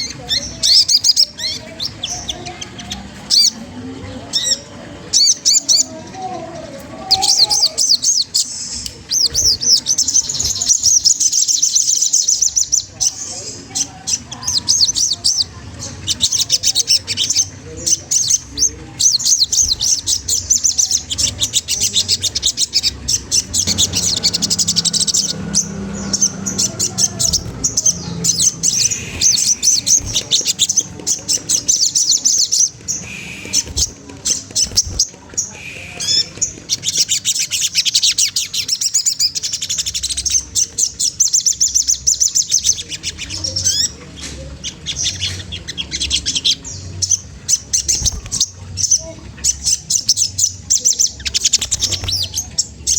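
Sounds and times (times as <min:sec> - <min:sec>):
bird chattering chirps: 0:00.0 - 0:52.9.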